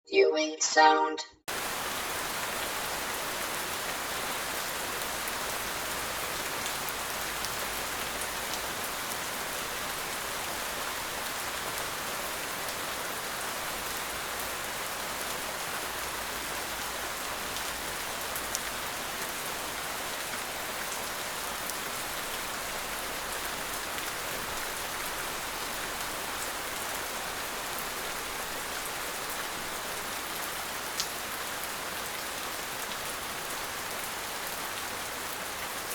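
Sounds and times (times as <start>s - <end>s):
heavy rain in a forest: 1.5s - 35.9s.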